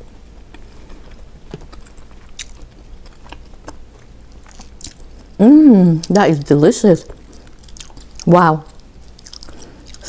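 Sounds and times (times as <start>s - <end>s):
eating clicks and crunches: 0.3s - 10.0s.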